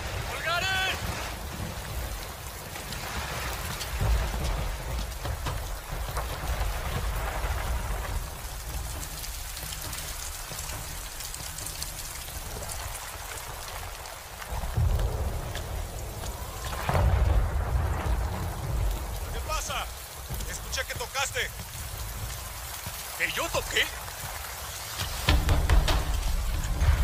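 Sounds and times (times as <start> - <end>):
heavy rain on deck: 0.0 - 27.0
low storm rumble: 0.0 - 27.0.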